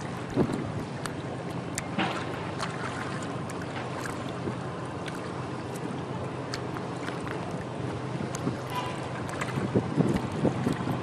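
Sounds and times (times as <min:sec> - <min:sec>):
faint low hum of boat: 0:00.0 - 0:11.0.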